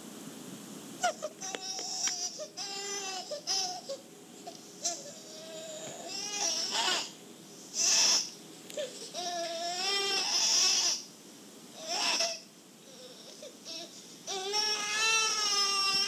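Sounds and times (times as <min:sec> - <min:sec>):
infant crying: 0:01.0 - 0:04.0, 0:04.8 - 0:07.2, 0:07.8 - 0:11.1, 0:11.8 - 0:16.0.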